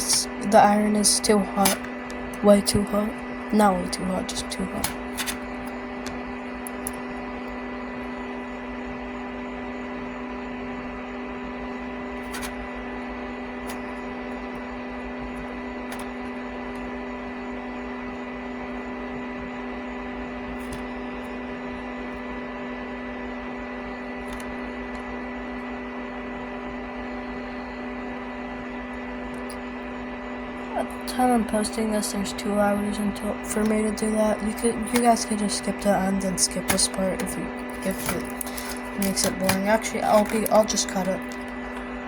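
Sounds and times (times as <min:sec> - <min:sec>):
steady tonal hum: 0:00.0 - 0:42.0.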